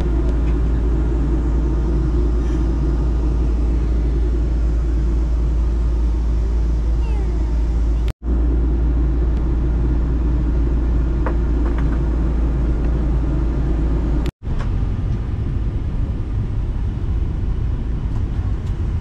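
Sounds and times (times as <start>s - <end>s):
jet airliner cabin drone: 0.0s - 19.0s.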